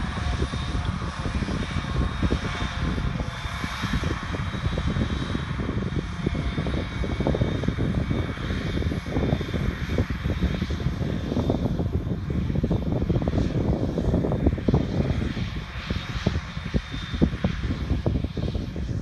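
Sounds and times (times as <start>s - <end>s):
diesel farm machinery running: 0.0s - 19.0s.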